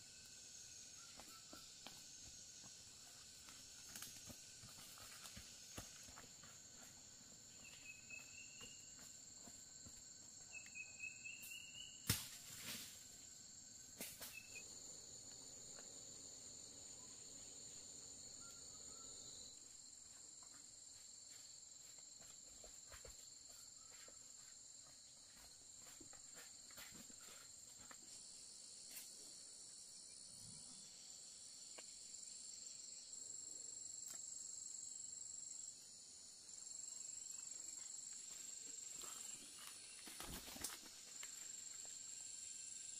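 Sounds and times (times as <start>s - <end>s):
insects chorus: 0.0s - 42.9s.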